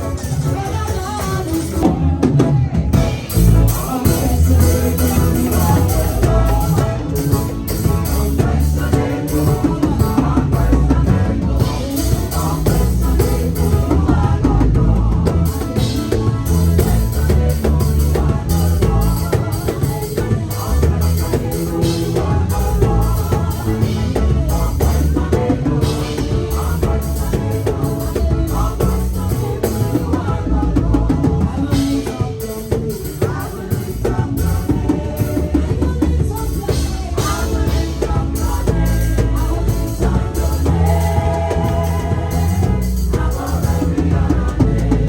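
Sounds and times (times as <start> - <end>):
church band music: 0.0 - 45.0
deep bass notes: 0.0 - 45.0
drum kit beat: 0.0 - 45.0.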